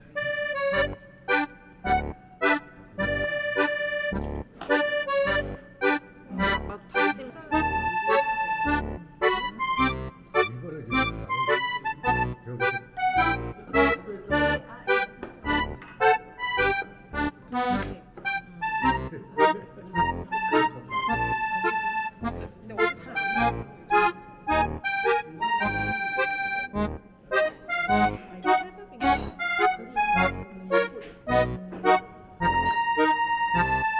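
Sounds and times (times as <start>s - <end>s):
music with held notes over low beat: 0.0s - 33.9s.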